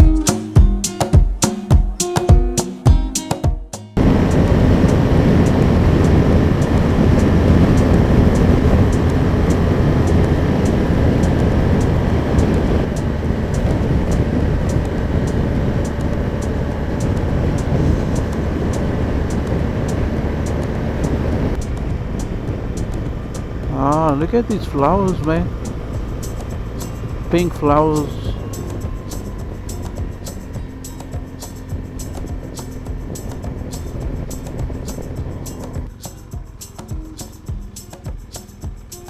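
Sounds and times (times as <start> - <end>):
wind rush on microphone: 4.0 - 36.4
motorcycle engine drone: 4.0 - 37.4.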